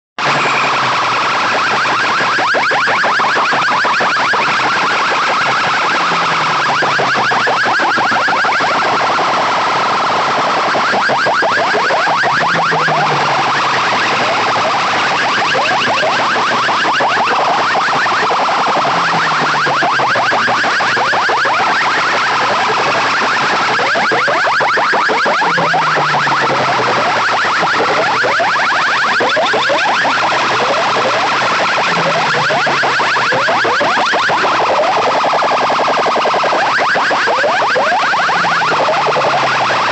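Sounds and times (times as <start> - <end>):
siren-like electronic warbling: 0.2 - 39.9.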